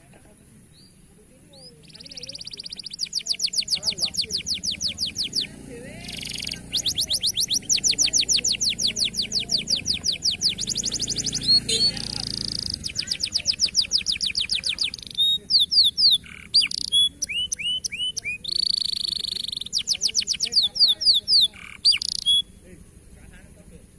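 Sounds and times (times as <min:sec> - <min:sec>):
canary singing: 0:00.6 - 0:23.2.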